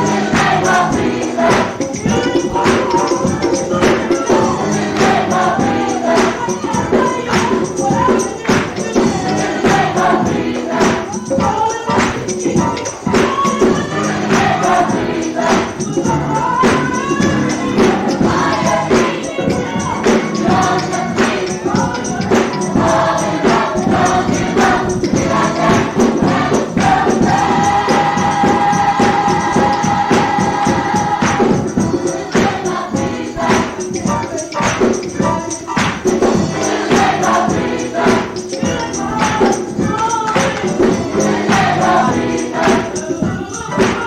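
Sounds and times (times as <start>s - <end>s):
gospel choir singing: 0.0s - 44.0s
steady beat: 0.0s - 44.0s
tambourine: 0.0s - 44.0s.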